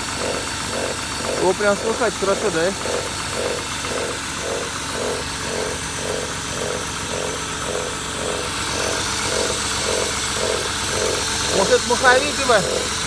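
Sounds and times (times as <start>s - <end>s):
car engine idling: 0.0s - 13.0s
pulsing extraneous engine noise: 0.0s - 13.0s.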